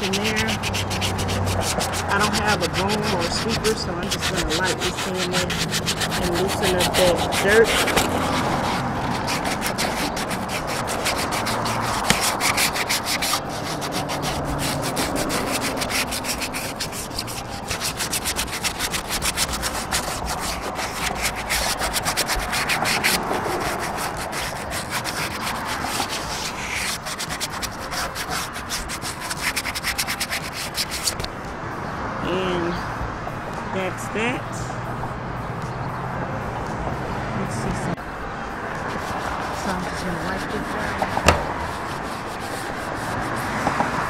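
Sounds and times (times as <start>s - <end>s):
sandpaper rubbing on metal: 0.0s - 31.3s, 38.9s - 44.0s.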